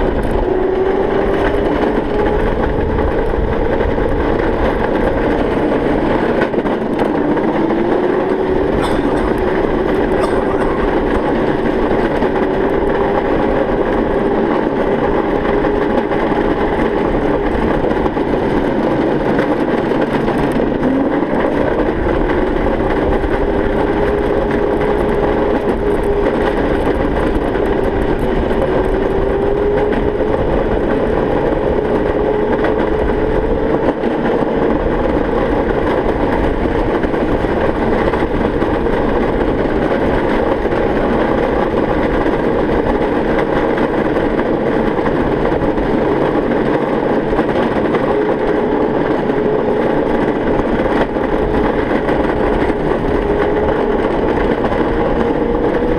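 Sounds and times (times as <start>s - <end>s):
small tyres rumbling on concrete: 0.0s - 55.9s.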